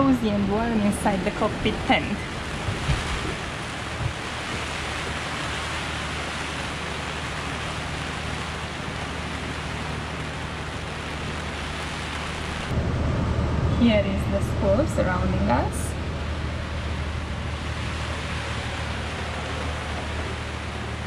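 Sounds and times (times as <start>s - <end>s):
low steady hum: 0.0s - 21.0s
rain and wind on tent: 0.0s - 21.0s
sea rushing past: 0.4s - 13.7s, 15.7s - 21.0s.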